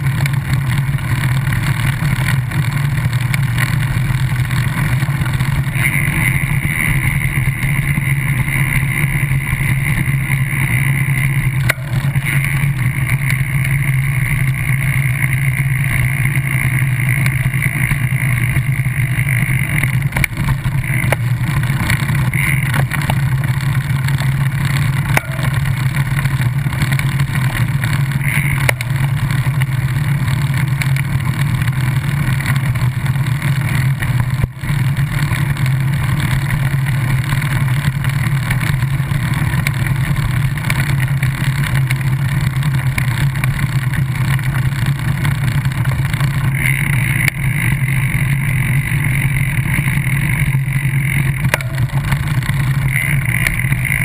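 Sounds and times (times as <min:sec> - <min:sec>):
low travel rumble: 0:00.0 - 0:54.0.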